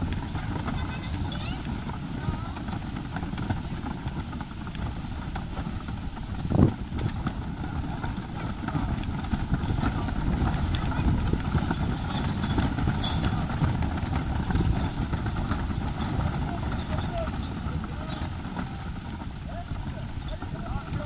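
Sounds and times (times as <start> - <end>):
vehicle engine running: 0.0 - 21.0
wheelie bins rolling on gravel: 0.0 - 21.0.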